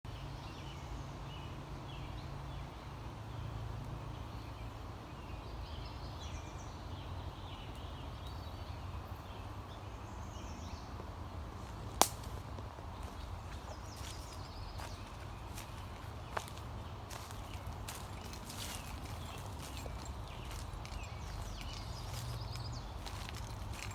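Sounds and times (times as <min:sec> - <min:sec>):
birds chirping: 0:00.2 - 0:23.9.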